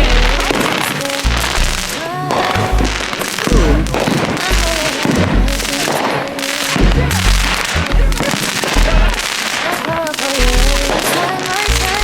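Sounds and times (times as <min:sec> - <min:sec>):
music with deep bass: 0:00.0 - 0:09.4, 0:10.4 - 0:12.0
fireworks banging and crackling: 0:00.0 - 0:12.0.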